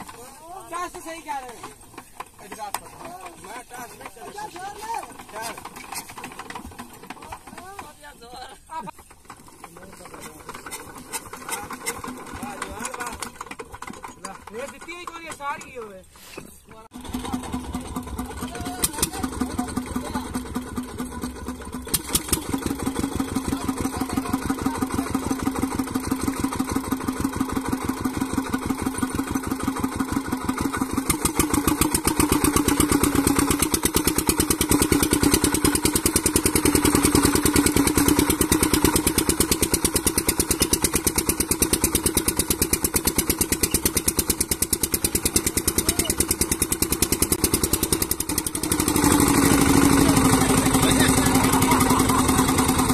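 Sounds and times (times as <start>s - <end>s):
diesel engine chugging: 0.0s - 16.1s, 16.9s - 52.9s.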